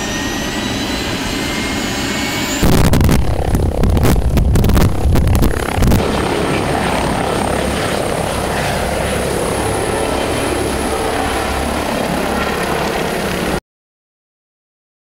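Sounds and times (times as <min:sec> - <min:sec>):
helicopter rotor and turbine noise: 0:00.0 - 0:13.6
helicopter rotor downwash rush: 0:00.0 - 0:13.6.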